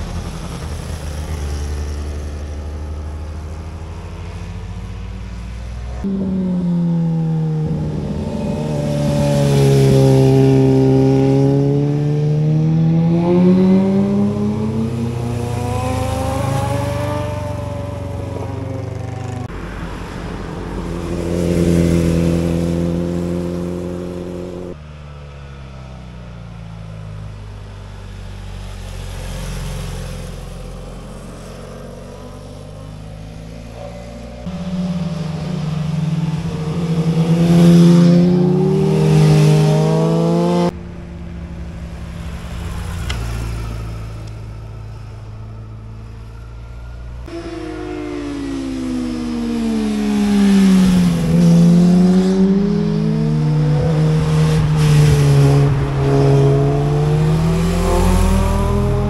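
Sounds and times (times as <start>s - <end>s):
motorcycle engines passing: 0.0s - 26.2s, 27.8s - 59.0s.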